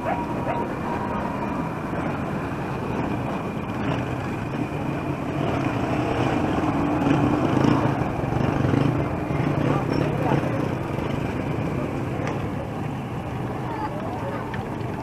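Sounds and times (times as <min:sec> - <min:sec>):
street noise hiss: 0:00.0 - 0:15.0
vehicle engine humming: 0:00.0 - 0:15.0.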